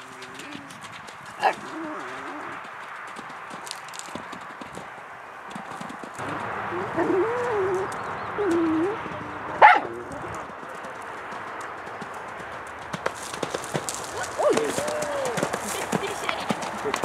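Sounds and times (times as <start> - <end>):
horse hoofbeats on sand: 0.0 - 7.9, 9.9 - 17.0.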